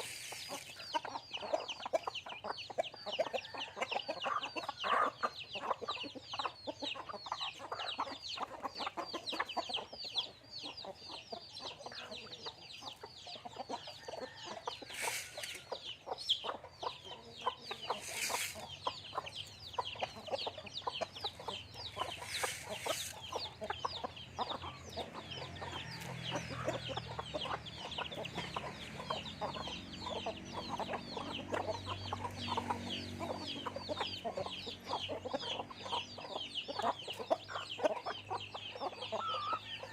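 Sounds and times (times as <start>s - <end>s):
chickens clucking and peeping: 0.0s - 39.9s.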